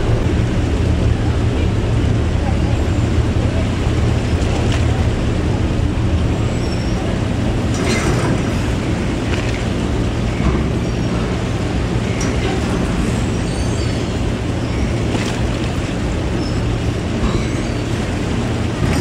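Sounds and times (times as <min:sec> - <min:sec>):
ferry engines idling: 0:00.0 - 0:19.0.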